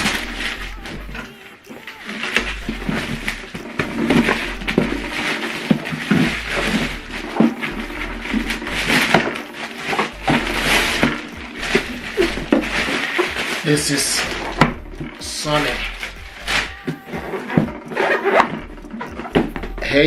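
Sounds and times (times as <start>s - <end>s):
packaging rustling and scraping: 0.0s - 20.0s.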